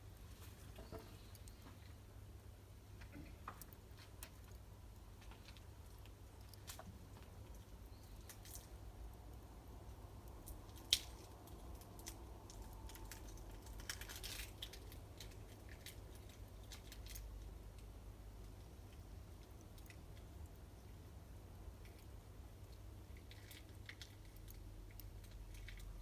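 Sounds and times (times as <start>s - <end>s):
campfire crackling: 3.6s - 26.0s.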